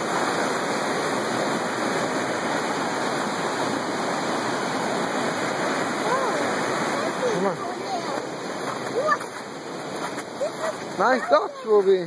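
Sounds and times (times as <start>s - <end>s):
creek rushing over stones: 0.0s - 12.0s.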